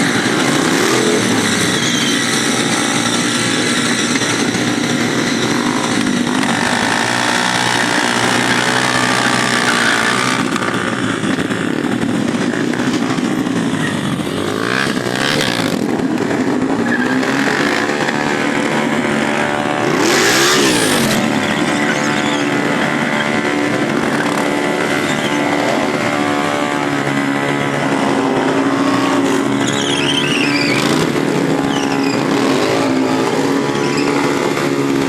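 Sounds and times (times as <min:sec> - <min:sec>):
motorcycle engines revving: 0:00.0 - 0:35.0.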